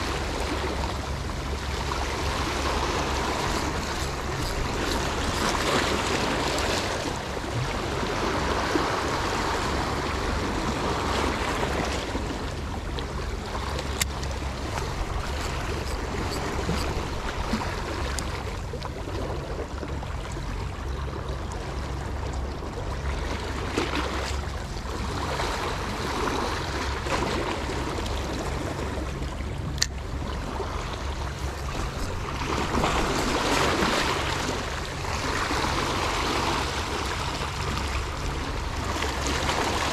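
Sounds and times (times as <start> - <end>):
sea water lapping: 0.0 - 39.9
wind rumble on microphone: 0.0 - 39.9.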